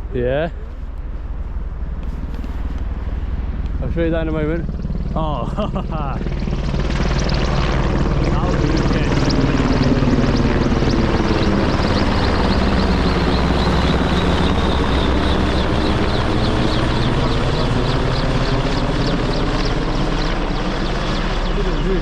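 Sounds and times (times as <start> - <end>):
helicopter rotor drone: 0.0 - 22.0
high turbine whine: 0.0 - 22.0.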